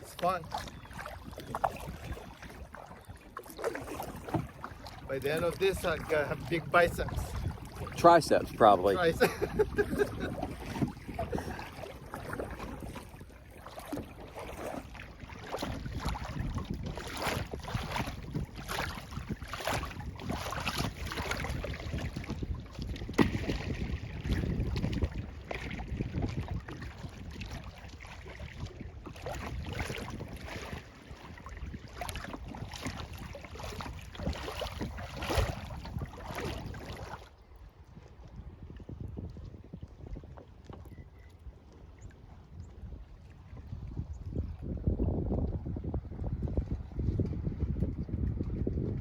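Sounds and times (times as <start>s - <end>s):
paddle strokes splashing water: 0.0s - 49.0s
wind rumbling on microphone: 0.0s - 49.0s.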